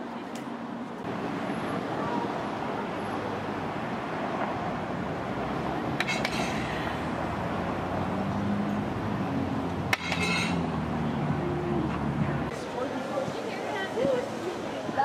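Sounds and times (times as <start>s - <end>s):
road traffic cars passing: 0.0s - 15.0s.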